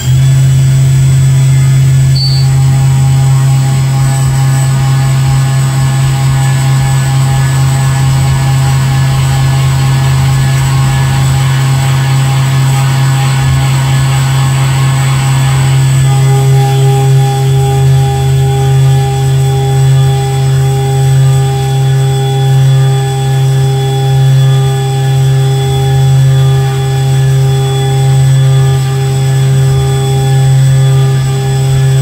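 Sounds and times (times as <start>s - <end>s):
milling machine cutting metal: 0.0s - 32.0s.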